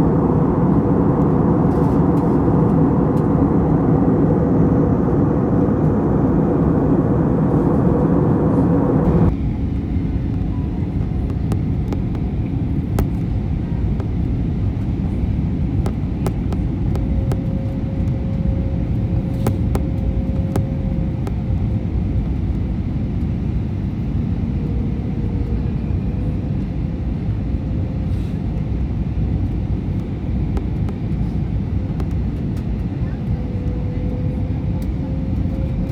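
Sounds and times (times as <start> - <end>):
jet engine roar in cabin: 0.0 - 35.9.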